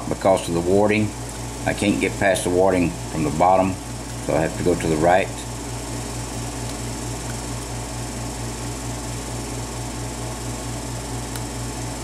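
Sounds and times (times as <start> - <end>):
pulsing machine hum and hiss: 0.0 - 12.0.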